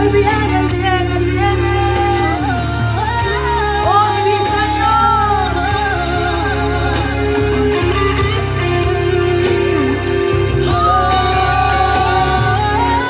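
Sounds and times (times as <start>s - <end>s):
bass line: 0.0s - 13.0s
church band playing: 0.0s - 13.0s
person singing: 0.0s - 13.0s.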